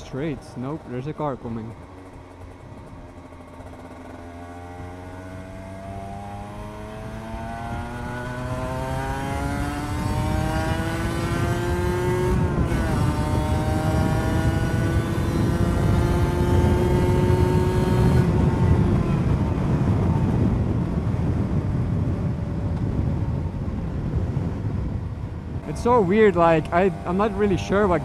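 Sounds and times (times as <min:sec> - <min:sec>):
motorcycle engine accelerating: 0:00.0 - 0:28.0
wind noise: 0:04.8 - 0:28.0.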